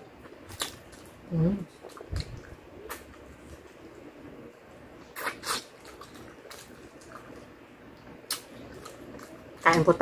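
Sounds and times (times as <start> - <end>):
chewing crispy chicken: 0.3 - 7.6, 8.2 - 9.9.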